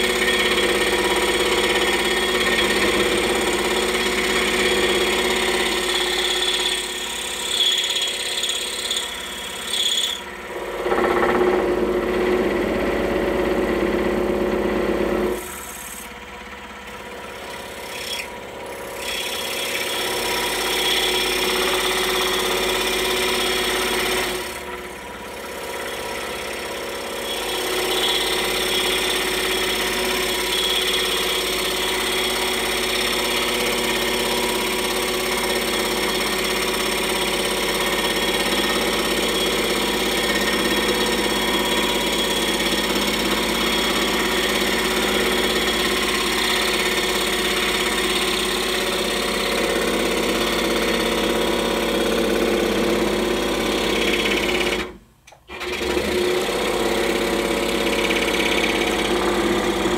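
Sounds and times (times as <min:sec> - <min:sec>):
scroll saw cutting wood: 0:00.0 - 0:59.9.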